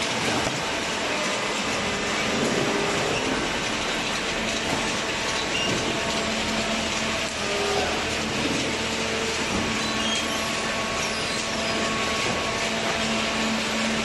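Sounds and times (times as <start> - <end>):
hydraulic baler running: 0.0 - 14.0.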